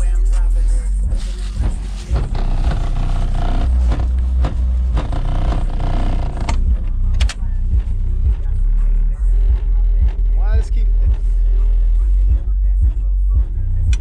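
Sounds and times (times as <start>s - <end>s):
hip hop music through subwoofer: 0.0s - 14.0s.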